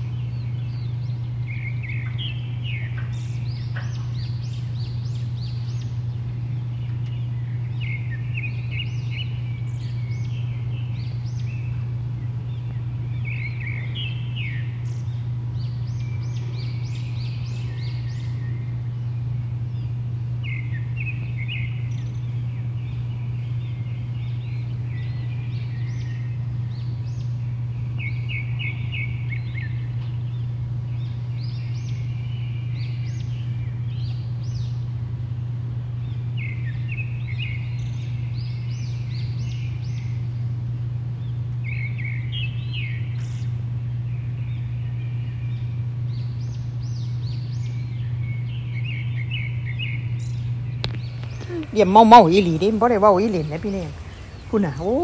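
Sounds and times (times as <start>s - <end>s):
loud low hum: 0.0s - 55.0s
songbirds chirping: 0.0s - 55.0s.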